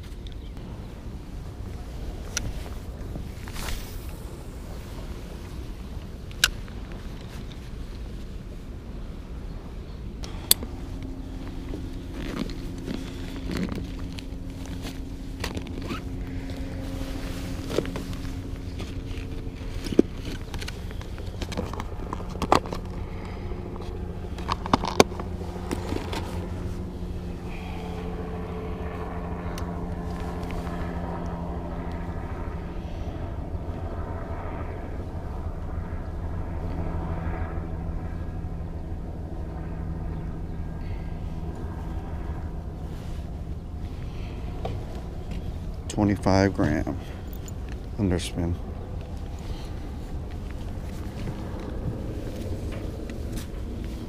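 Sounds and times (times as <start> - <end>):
steady motor hum: 0.0 - 54.0
wind rumble on microphone: 0.0 - 54.0.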